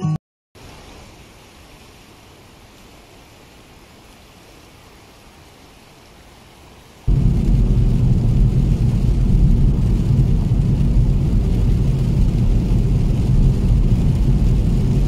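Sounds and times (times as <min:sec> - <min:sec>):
road and engine noise in car: 0:00.8 - 0:15.0.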